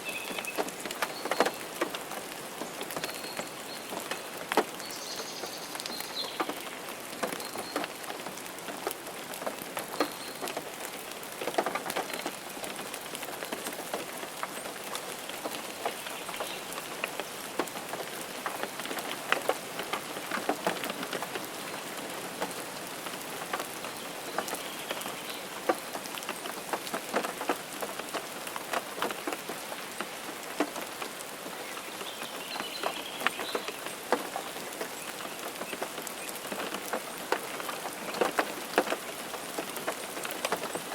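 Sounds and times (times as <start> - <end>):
raindrops ticking close by: 0.0 - 40.9
steady rain falling: 0.0 - 40.9.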